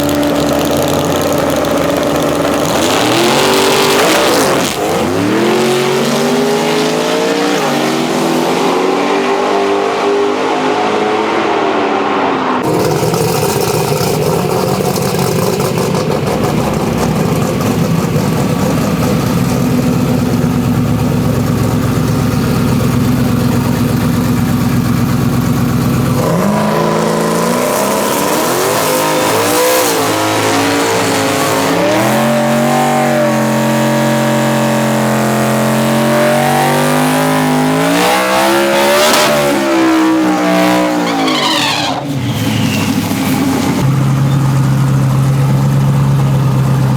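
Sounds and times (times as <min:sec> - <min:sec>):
truck engine running hard: 0:00.0 - 0:09.2, 0:11.9 - 0:46.9.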